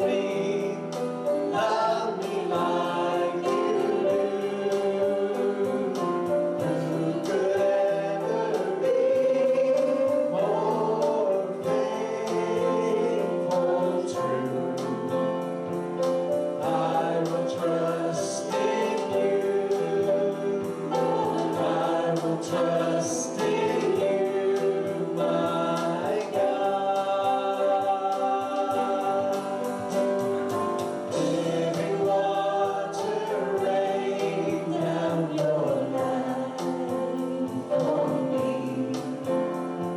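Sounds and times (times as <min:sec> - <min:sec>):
choir and congregation singing hymn: 0:00.0 - 0:39.9
instrumental accompaniment: 0:00.0 - 0:39.9.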